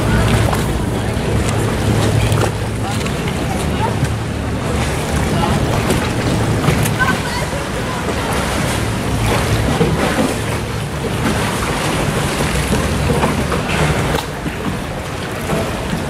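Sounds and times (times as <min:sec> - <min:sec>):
boat moving along canal: 0:00.0 - 0:16.0.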